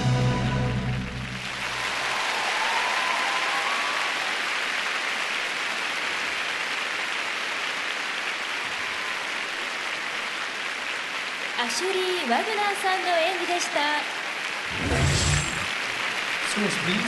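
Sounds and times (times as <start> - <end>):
crowd applauding: 0.3 - 17.0.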